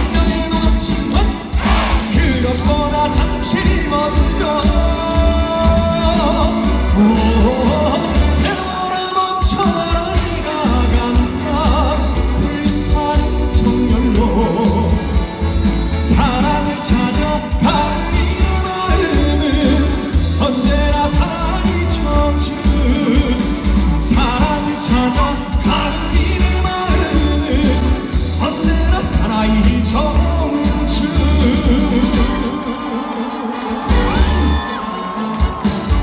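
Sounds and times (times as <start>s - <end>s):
band with pulsing bass beat: 0.0s - 36.0s
man singing into microphone: 0.0s - 36.0s.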